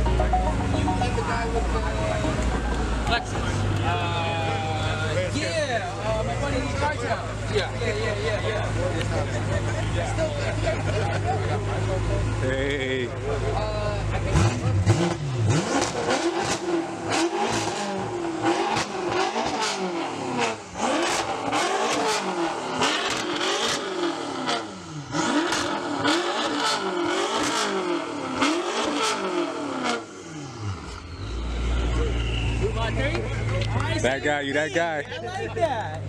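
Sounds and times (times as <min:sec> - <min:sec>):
car engine revving: 0:00.0 - 0:33.8.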